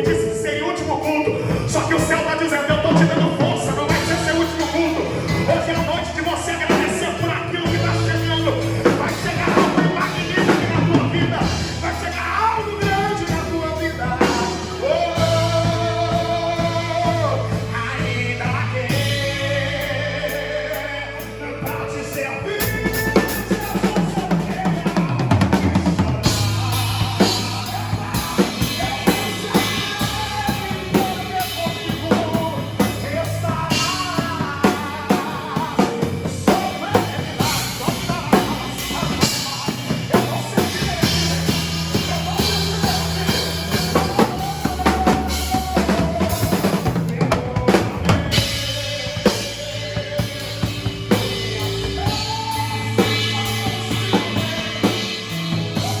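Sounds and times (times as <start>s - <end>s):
band playing instrumental: 0.0s - 56.0s
drum kit with rimshots: 0.0s - 56.0s.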